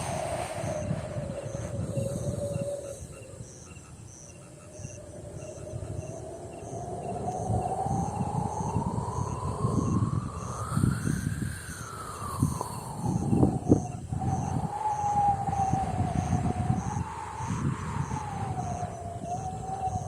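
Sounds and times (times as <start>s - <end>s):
faint high chirping: 0.0s - 20.0s
wind howling and whistling: 0.0s - 20.0s.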